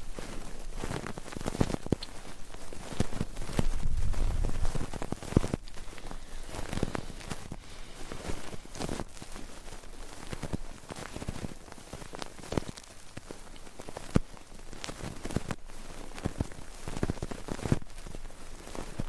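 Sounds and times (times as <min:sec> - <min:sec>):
crackling scratchy taps and rustles: 0:00.0 - 0:19.0.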